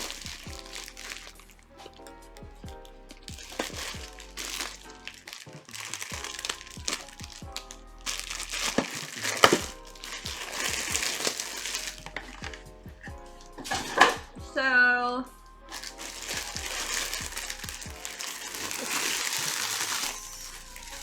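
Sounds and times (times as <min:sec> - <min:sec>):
plastic packaging crinkling: 0:00.0 - 0:14.4, 0:15.6 - 0:21.0
background music with steady beat: 0:00.0 - 0:21.0.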